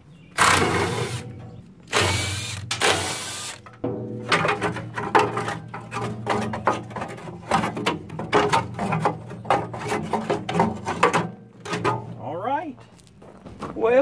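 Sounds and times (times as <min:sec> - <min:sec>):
metal parts clattering and scraping: 0:00.4 - 0:12.2.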